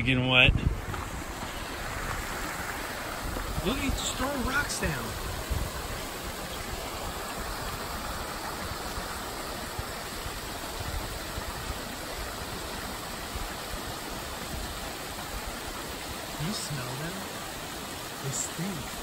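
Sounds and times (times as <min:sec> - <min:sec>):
rocky creek rushing: 0:00.6 - 0:19.0.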